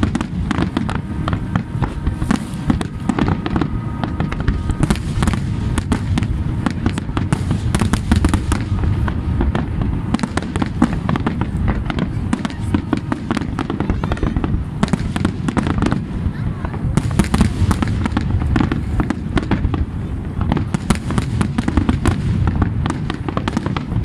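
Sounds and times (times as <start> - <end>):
low rumble: 0.0 - 20.8
fireworks bangs and crackles: 0.0 - 24.0.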